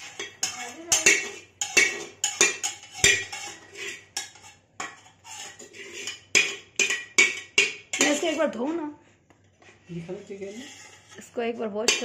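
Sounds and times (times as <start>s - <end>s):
metal utensils clanking on pan: 0.0s - 8.8s, 10.3s - 12.0s.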